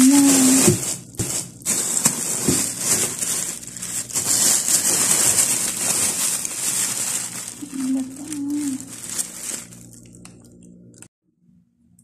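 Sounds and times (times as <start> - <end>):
plastic bags rustling: 0.0 - 11.1.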